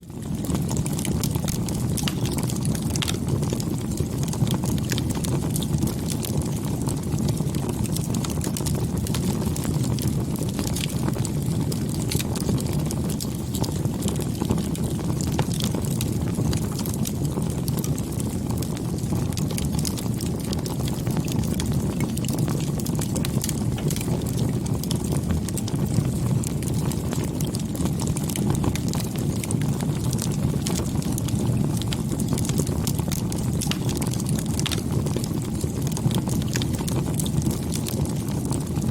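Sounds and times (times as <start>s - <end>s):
burning wood crackling and popping: 0.0s - 38.9s
low rush of flames: 0.1s - 38.9s.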